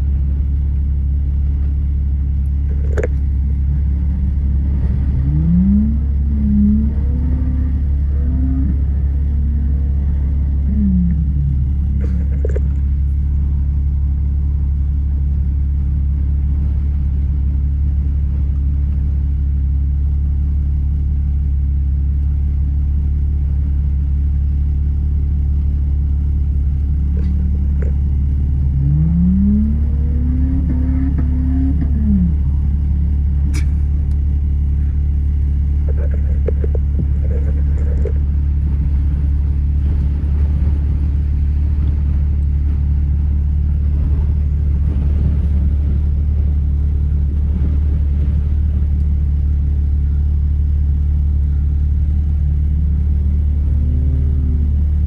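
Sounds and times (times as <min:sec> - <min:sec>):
engine running low rumble: 0:00.0 - 0:55.0.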